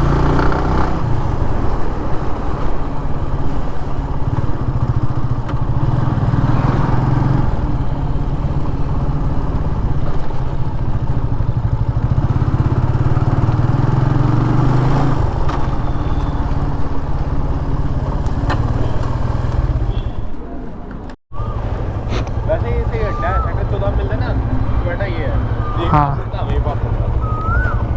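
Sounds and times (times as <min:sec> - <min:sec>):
motorcycle engine running: 0:00.0 - 0:20.2, 0:21.4 - 0:27.9.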